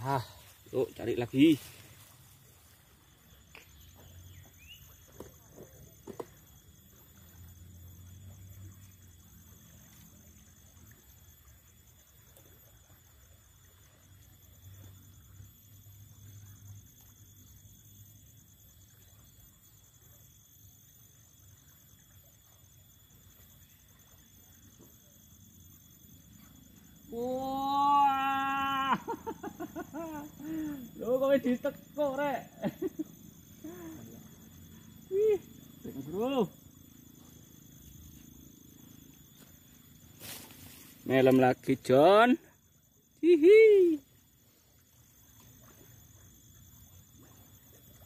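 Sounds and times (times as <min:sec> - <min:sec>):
high-pitched insect trill: 0:00.0 - 0:48.0.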